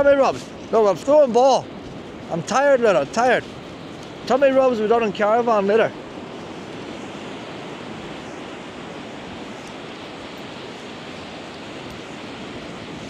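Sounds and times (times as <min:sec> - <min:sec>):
brisk wind: 0:00.0 - 0:13.0
sea surf washing onto beach: 0:00.0 - 0:13.0.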